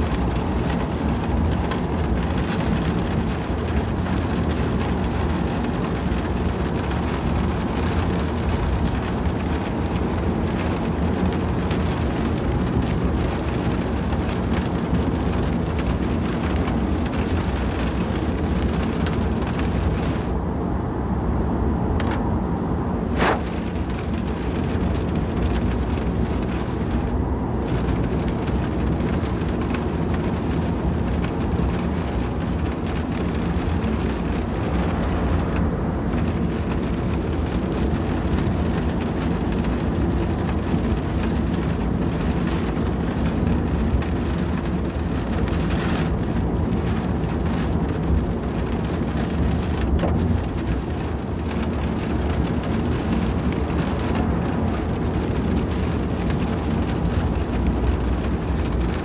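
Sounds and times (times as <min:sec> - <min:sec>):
car and tyres rumbling: 0:00.0 - 0:59.0.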